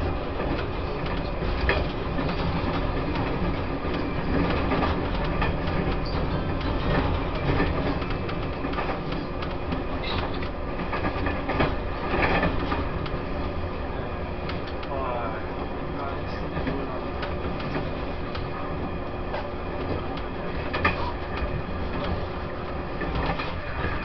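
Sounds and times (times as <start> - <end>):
wheels clicking over rails: 0.0 - 13.6, 16.2 - 24.0
train rolling rumble: 0.0 - 24.0.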